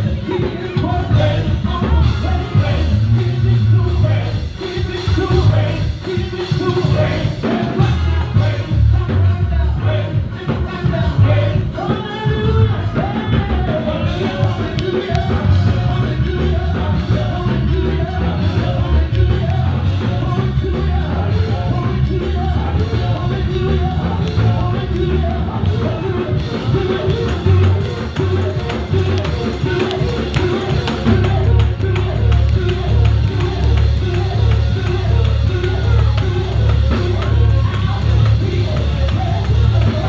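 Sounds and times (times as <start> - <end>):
live church band music: 0.0 - 40.0
people singing: 0.0 - 40.0
steady bass beat: 0.0 - 40.0.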